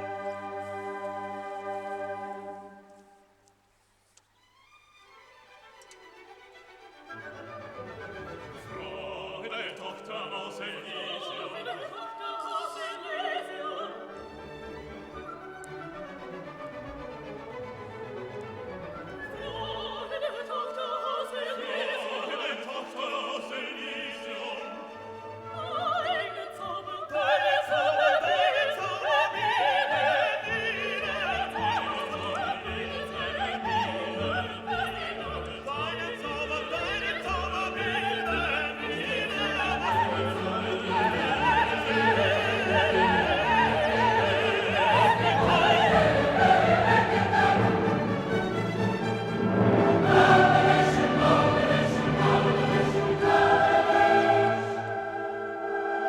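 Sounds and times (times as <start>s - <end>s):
orchestra with singing voices: 0.0s - 3.4s, 5.4s - 56.0s.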